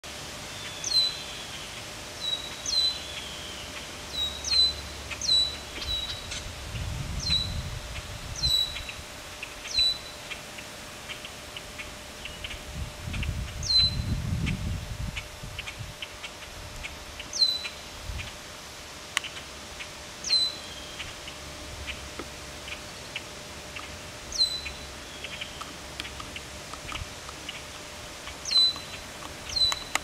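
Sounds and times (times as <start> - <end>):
bird calling: 0.5 - 6.6, 7.2 - 14.2, 15.2 - 18.4, 19.2 - 30.0.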